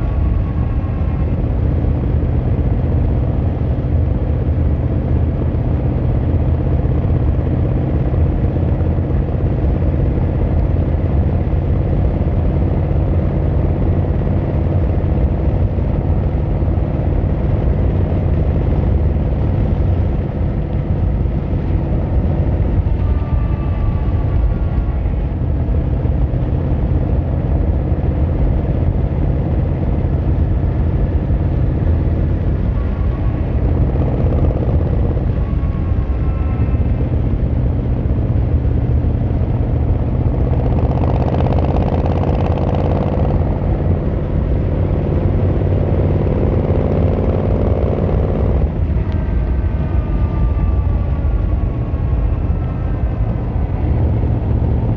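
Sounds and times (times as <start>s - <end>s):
motorcycle engine and exhaust running: 0.0s - 54.9s.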